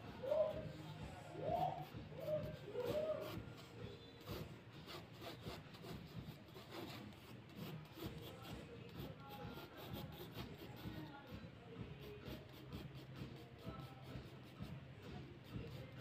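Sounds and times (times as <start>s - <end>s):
pencil scratching on paper: 1.6s - 11.3s, 11.9s - 16.0s.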